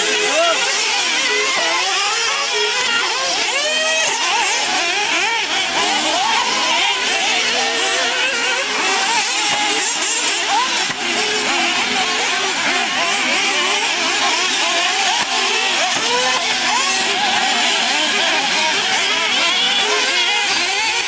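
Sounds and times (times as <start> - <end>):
small engines revving: 0.0 - 21.0.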